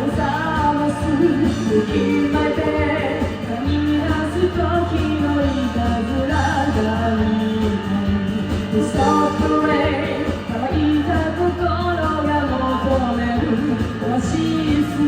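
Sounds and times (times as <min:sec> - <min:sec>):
pop-rock song with vocals: 0:00.0 - 0:15.0.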